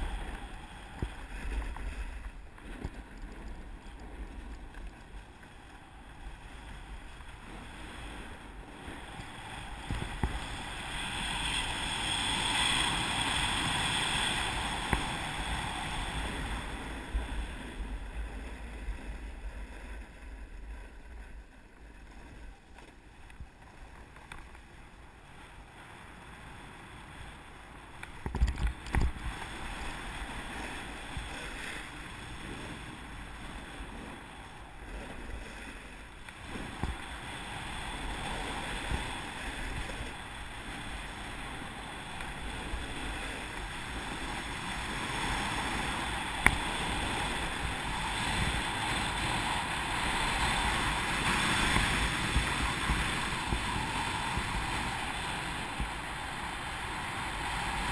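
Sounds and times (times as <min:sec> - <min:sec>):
snowboard scraping on snow: 0:00.0 - 0:24.1, 0:29.0 - 0:57.9
wind on microphone: 0:00.0 - 0:24.7, 0:25.4 - 0:57.9.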